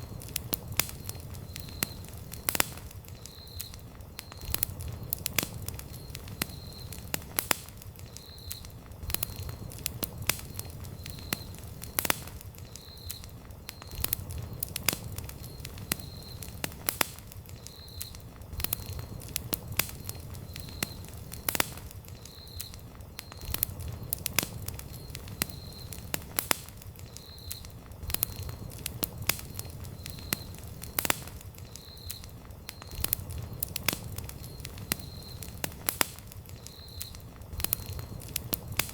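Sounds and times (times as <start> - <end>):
burning wood popping: 0.0 - 38.9
campfire crackling: 0.0 - 38.9
low rumble of flames: 0.0 - 38.9.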